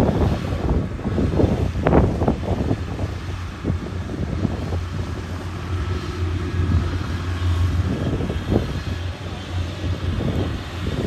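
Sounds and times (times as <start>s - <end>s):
combine harvester working: 0.0s - 11.0s
tracked vehicle engine droning: 0.0s - 11.0s.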